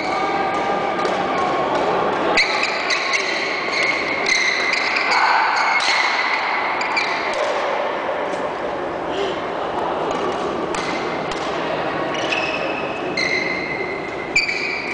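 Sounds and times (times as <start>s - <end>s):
rackets hitting shuttlecock: 0.0s - 7.8s, 10.0s - 14.9s.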